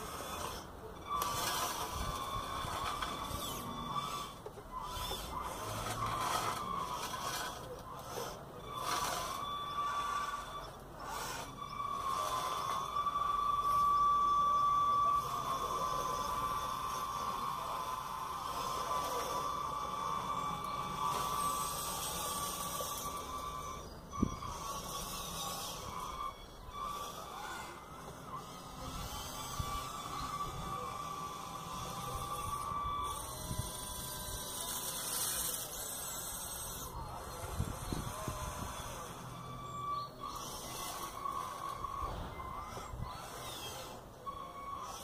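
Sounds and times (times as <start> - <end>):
model loader motor and pump whine: 0.0 - 45.0.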